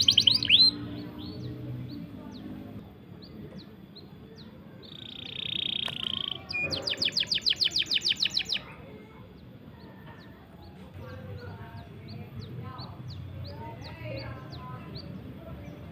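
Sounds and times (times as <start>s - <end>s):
songbird singing: 0.0s - 15.9s.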